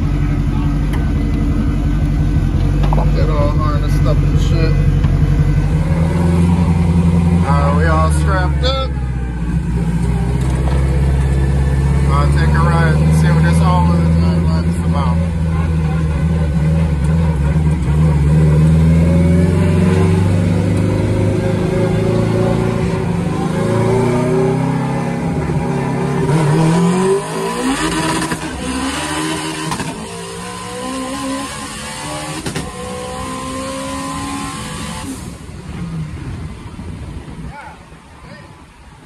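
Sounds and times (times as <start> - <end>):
car engine accelerating hard: 0.0 - 37.4.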